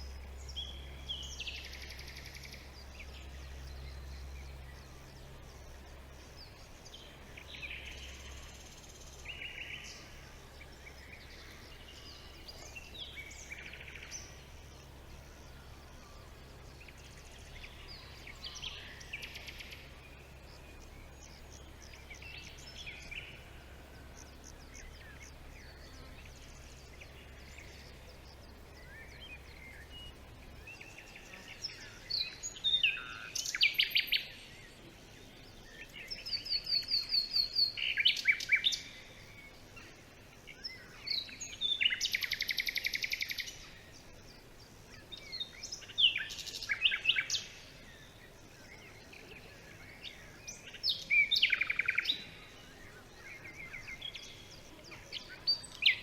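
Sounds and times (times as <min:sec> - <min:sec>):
birds chirping and singing: 0:00.0 - 0:56.0
low steady hum: 0:00.0 - 0:56.0.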